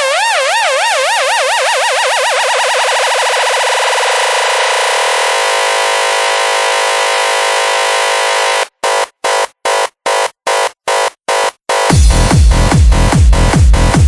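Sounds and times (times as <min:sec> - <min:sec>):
buzzing techno synth: 0:00.0 - 0:14.0.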